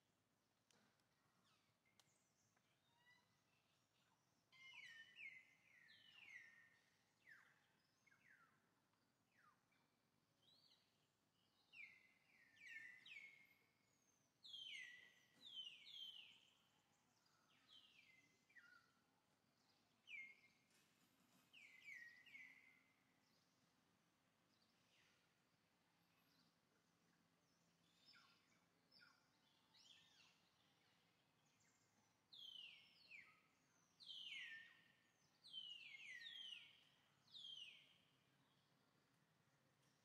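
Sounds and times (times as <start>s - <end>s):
bird chirping: 1.4s - 20.7s, 21.4s - 23.7s, 26.0s - 38.9s.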